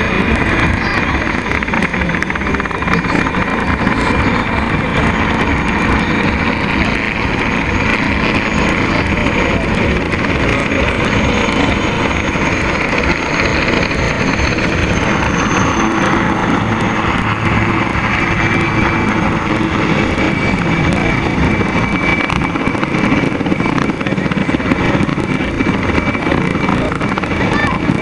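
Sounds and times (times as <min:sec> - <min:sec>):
helicopter rotor and turbine noise: 0:00.0 - 0:28.0
thin high whine: 0:00.0 - 0:28.0.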